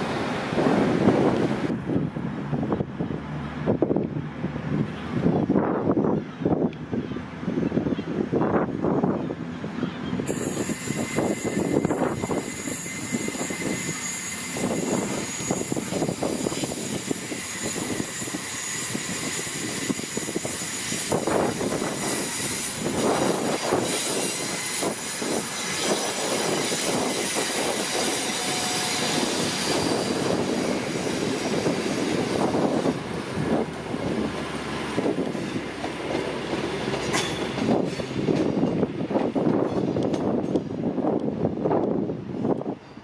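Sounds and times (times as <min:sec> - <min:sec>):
diesel train passing: 0:00.0 - 0:43.0
passenger train passing: 0:00.0 - 0:43.0.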